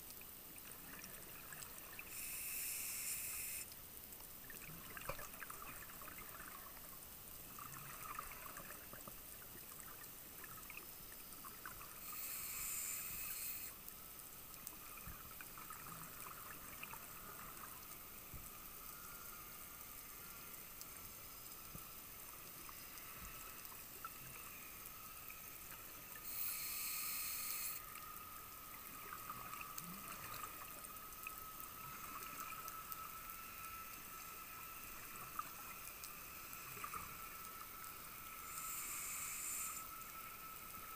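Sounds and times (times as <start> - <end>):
underwater hiss and crackle: 0.0 - 40.9.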